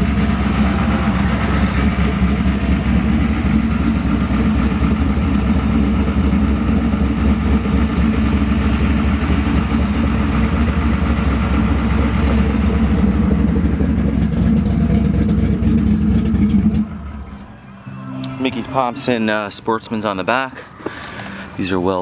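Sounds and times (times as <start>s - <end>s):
engine idling: 0.0s - 17.9s.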